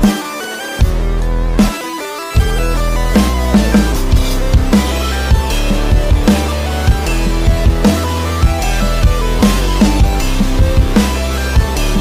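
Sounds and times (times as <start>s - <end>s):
heavy bass-drum beats: 0.0s - 0.2s, 0.8s - 12.0s.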